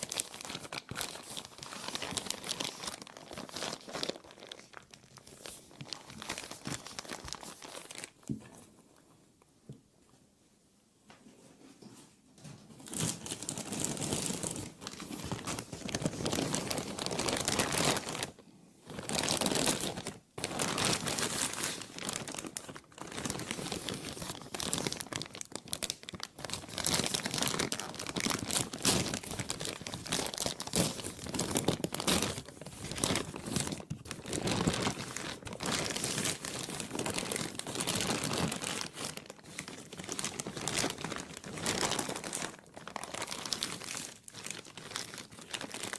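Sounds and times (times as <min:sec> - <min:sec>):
plastic crumpling and crinkling: 0:00.0 - 0:08.8, 0:12.4 - 0:45.9.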